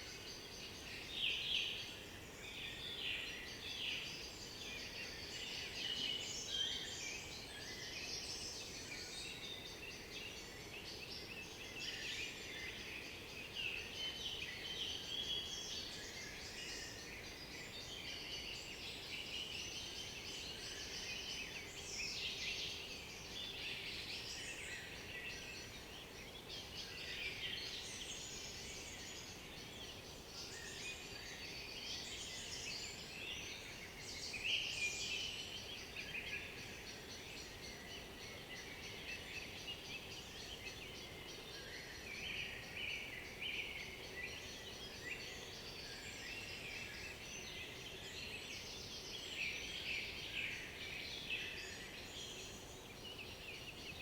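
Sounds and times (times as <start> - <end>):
forest songbirds singing: 0.0 - 54.0.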